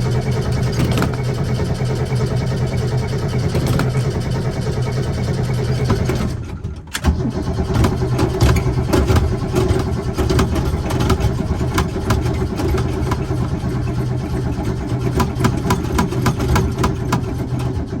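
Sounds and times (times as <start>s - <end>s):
car engine cranking on starter: 0.0s - 18.0s.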